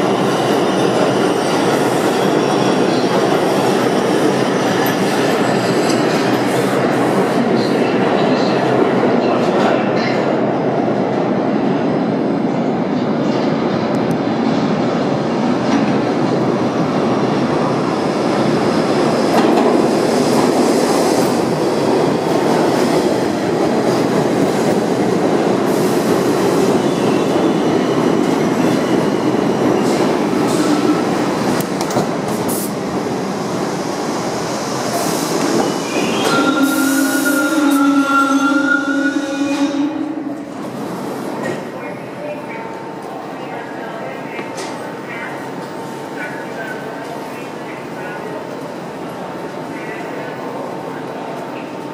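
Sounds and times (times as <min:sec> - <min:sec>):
subway train wheels rumbling: 0:00.0 - 0:51.9.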